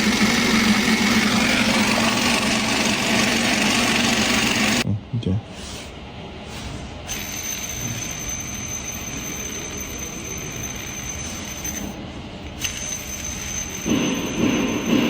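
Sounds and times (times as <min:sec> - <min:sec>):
engine running with mechanical noise: 0:00.0 - 0:04.8, 0:06.8 - 0:15.0.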